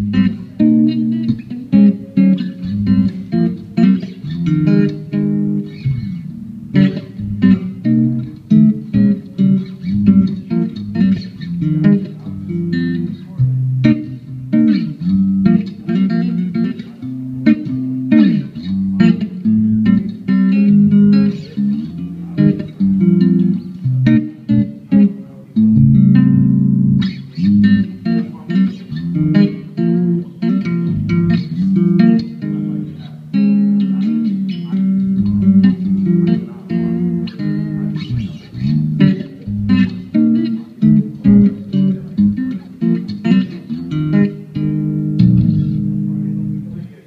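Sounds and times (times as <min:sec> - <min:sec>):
electric bass plucked runs: 0:00.0 - 0:47.0.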